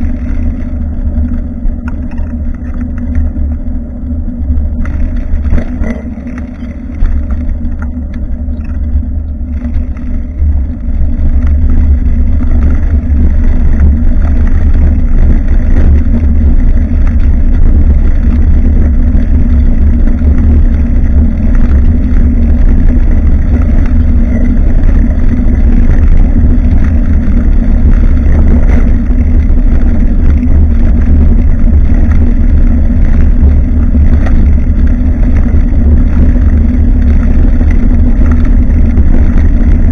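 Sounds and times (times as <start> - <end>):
road vibration rumbling: 0.0 - 39.9
steady hum: 0.0 - 39.9
wind buffeting microphone: 0.0 - 39.9.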